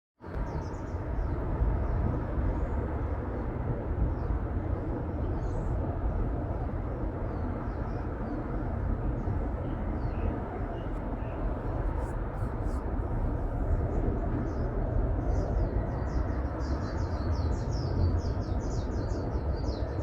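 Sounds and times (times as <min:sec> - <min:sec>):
steady low rumble: 0:00.3 - 0:20.0.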